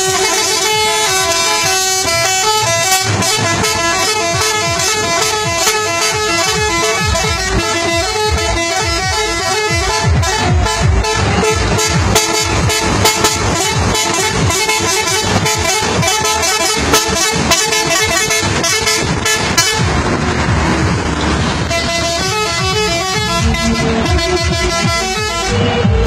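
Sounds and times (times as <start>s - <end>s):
multi-tone air horn melody: 0.0s - 19.9s, 21.5s - 26.0s
rushing noise: 0.0s - 26.0s.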